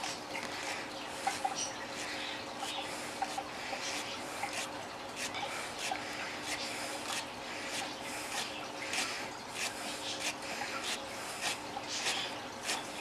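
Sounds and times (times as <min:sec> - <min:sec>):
hand tool rasping plastic: 0:00.0 - 0:13.0.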